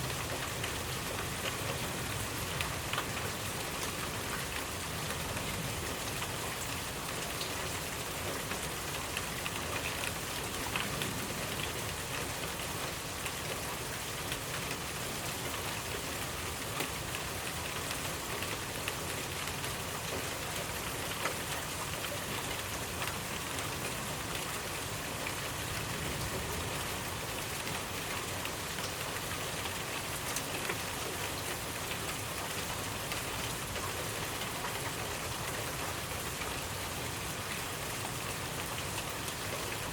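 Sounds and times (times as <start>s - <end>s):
raindrops ticking on a surface: 0.0s - 39.9s
steady rain hiss: 0.0s - 39.9s.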